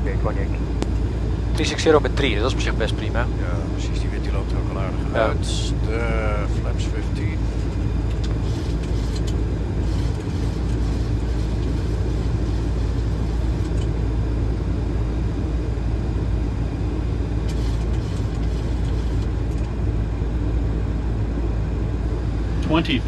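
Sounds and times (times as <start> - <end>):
airflow and engine rumble: 0.0 - 23.0.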